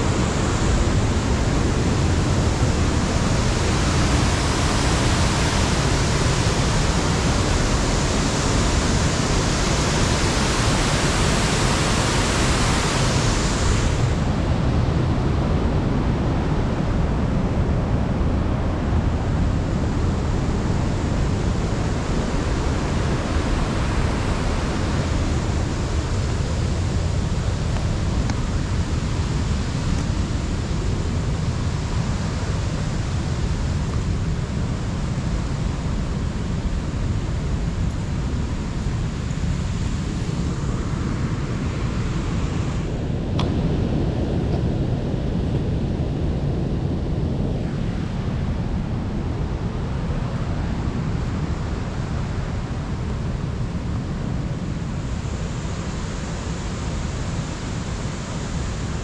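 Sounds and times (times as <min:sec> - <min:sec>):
waterfall roar: 0:00.0 - 0:59.0.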